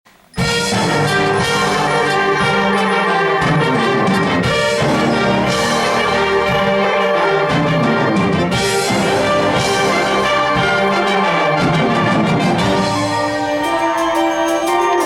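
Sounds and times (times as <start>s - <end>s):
concert band playing: 0.3s - 15.0s.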